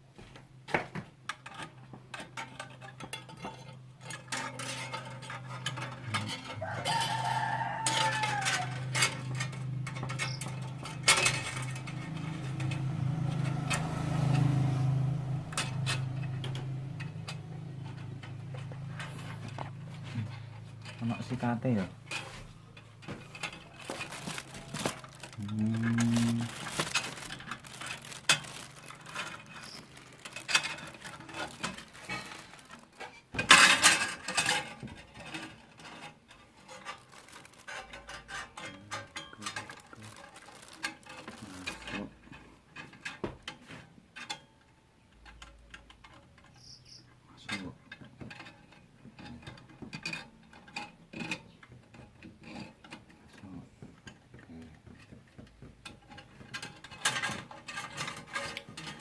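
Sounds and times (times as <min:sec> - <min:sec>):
metal parts and tools rattling: 0:01.3 - 0:59.0.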